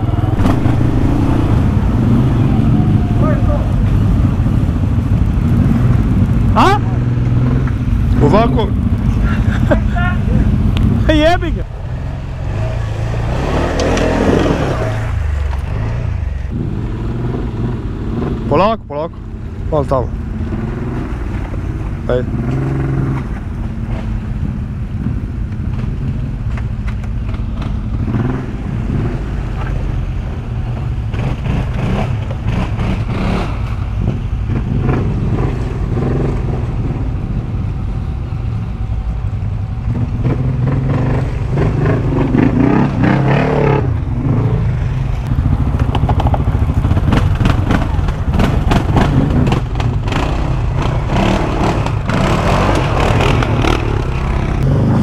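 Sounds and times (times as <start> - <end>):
quad engine running at low revs: 0.0 - 55.0.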